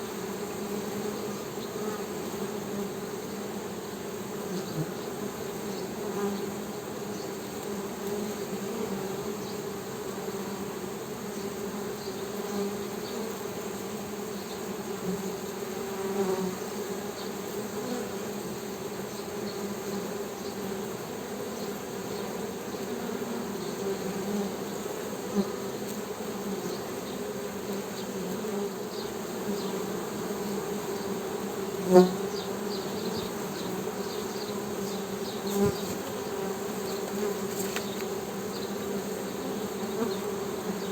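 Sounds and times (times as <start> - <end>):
honey bees buzzing: 0.0 - 40.9.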